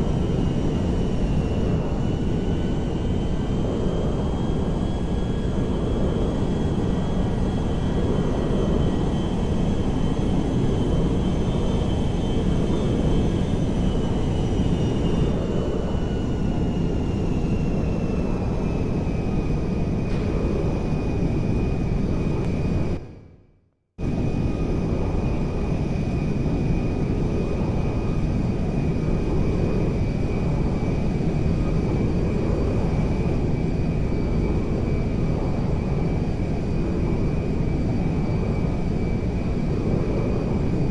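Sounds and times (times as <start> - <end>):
aircraft engine running: 0.0 - 23.1, 24.0 - 40.9.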